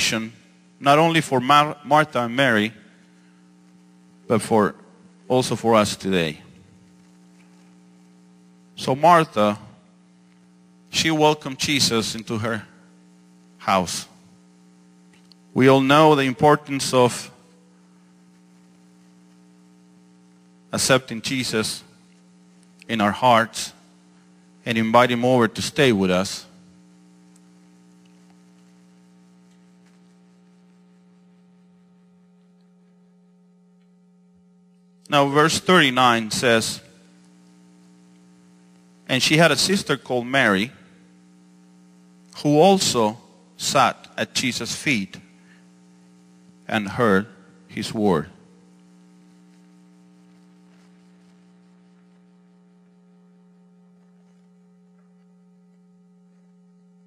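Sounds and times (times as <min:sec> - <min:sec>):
faint electrical hum: 0:00.0 - 0:57.0.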